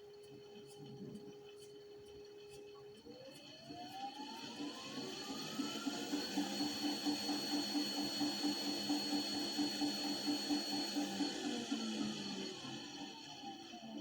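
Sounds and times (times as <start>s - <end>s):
rhythmic pulsing of washing machine: 0.0s - 14.0s
washing machine motor whine: 0.0s - 14.0s.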